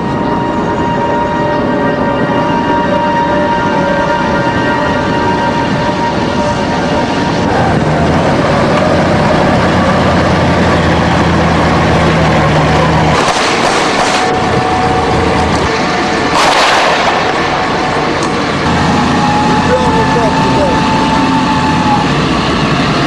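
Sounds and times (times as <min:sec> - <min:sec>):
heavy vehicle engine running: 0:00.0 - 0:23.0
loud bursts of noise: 0:00.0 - 0:23.0.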